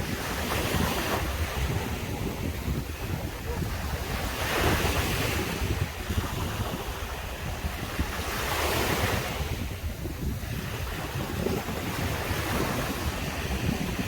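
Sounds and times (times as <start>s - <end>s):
sea waves breaking on beach: 0.0s - 14.0s
wind rumble on microphone: 0.0s - 14.0s.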